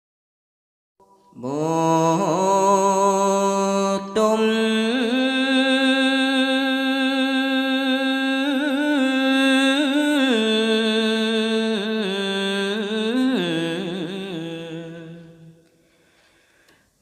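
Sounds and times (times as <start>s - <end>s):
monk chanting solo: 1.4s - 15.6s.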